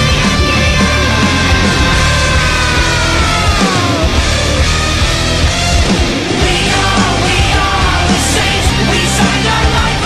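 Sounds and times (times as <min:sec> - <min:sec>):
heavy metal music: 0:00.0 - 0:10.0.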